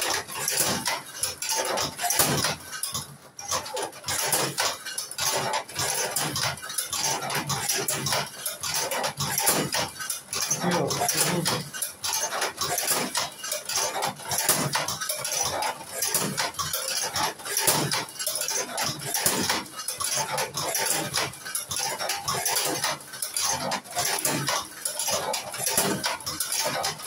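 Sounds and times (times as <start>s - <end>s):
cigarette-rolling machine clacking: 0.0s - 27.0s.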